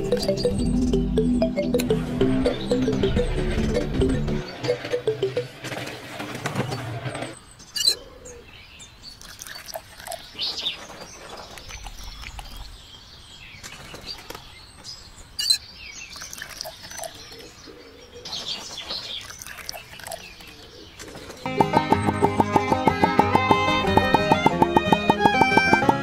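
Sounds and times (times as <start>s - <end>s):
small birds chirping: 0.0s - 25.7s.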